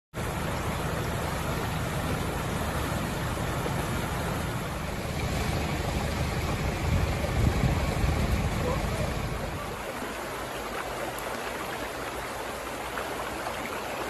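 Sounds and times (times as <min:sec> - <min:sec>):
flood water rushing: 0:00.2 - 0:14.0.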